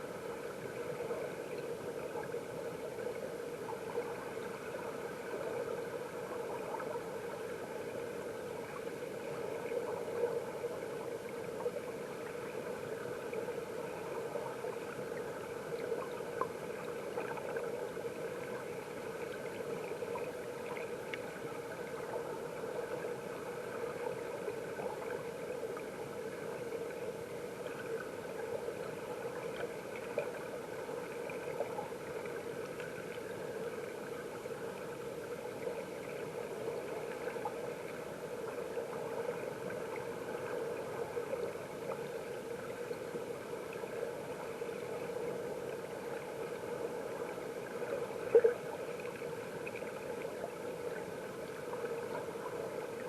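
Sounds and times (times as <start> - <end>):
faint underwater ticks: 0.0 - 53.0
muffled underwater stream rushing: 0.0 - 53.0.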